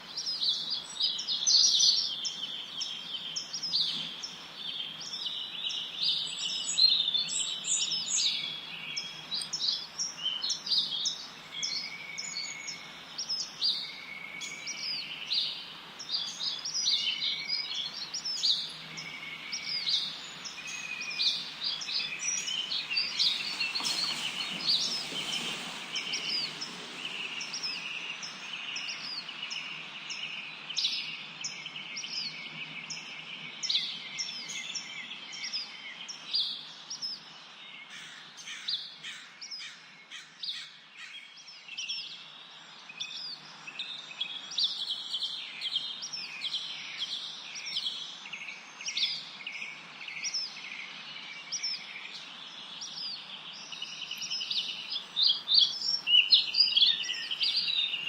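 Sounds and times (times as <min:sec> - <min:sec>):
steady background hiss: 0:00.0 - 0:58.0
birds chirping and singing: 0:00.1 - 0:58.0.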